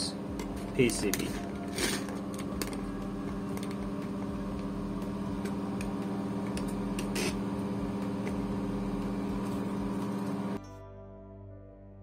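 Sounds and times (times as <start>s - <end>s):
machine humming: 0.0s - 10.6s.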